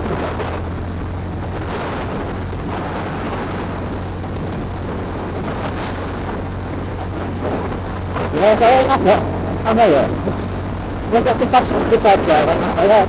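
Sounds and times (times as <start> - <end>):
motorcycle engine humming: 0.0 - 13.0
wind and road noise: 0.0 - 13.0.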